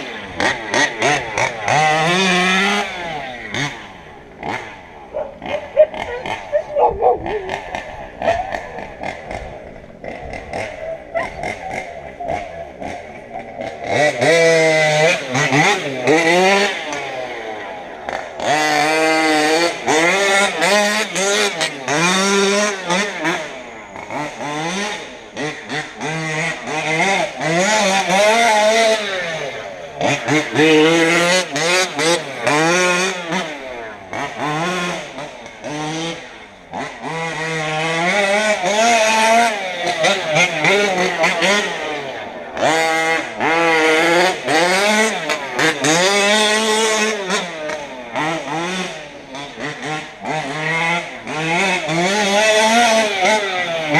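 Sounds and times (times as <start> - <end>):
two-stroke engine revving: 0.0 - 53.9.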